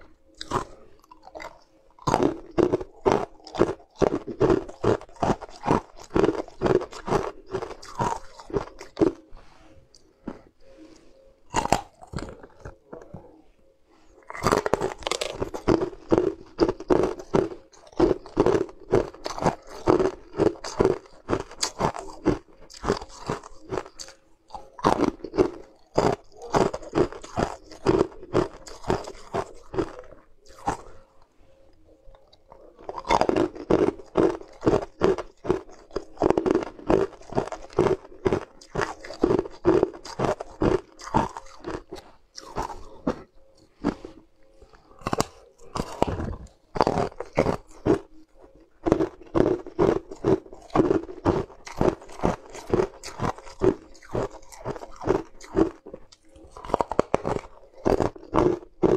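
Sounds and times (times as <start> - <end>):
crunching hard candy: 0.0 - 13.4, 14.1 - 58.9.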